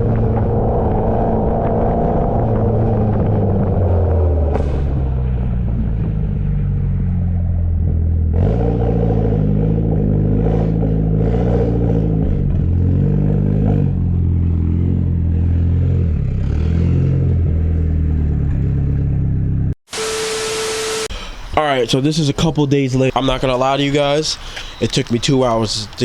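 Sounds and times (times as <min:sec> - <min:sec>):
car engine revving: 0:00.0 - 0:21.1.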